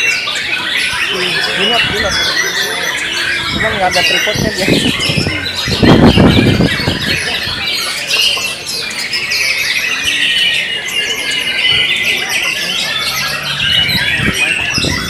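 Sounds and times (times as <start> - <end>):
songbirds whistling and chattering: 0.0 - 15.0.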